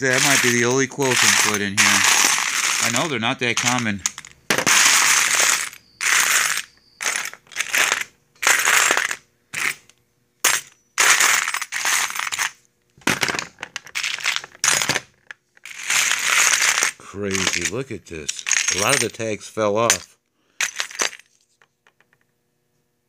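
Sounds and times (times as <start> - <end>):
small metal parts clinking: 0.0 - 22.3.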